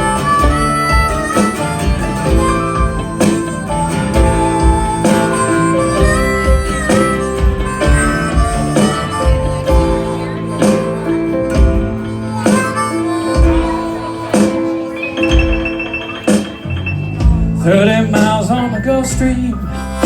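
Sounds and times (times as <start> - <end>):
bass: 0.0 - 14.6, 16.6 - 20.0
steady beat: 0.0 - 19.8
harmonica bending notes: 0.0 - 20.0
strummed guitar: 0.0 - 20.0.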